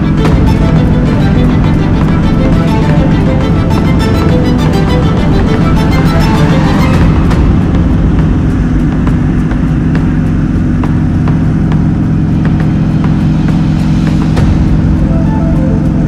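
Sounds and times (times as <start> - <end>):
radial engine and propeller drone: 0.0 - 16.0.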